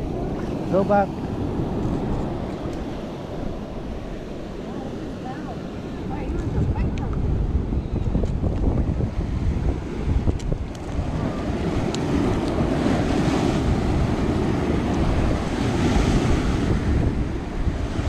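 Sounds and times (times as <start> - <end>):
surf washing over rocks: 0.0 - 18.0
wind rumbling on microphone: 0.0 - 18.0.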